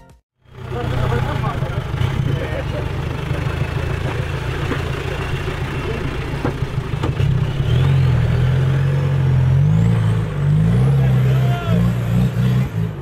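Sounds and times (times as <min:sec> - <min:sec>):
car engine revving: 0:00.4 - 0:13.0.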